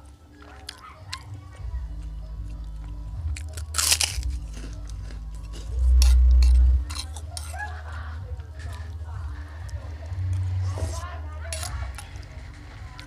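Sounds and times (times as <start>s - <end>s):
chewing crunchy food: 0.0s - 10.5s.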